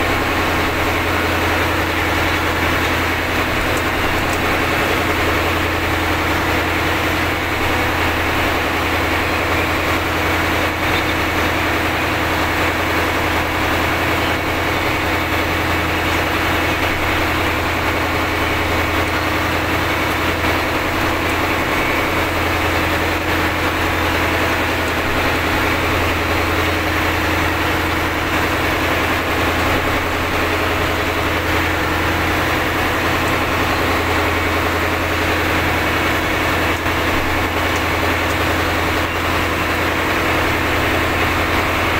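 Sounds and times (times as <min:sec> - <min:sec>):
boat engine humming: 0:00.0 - 0:41.9.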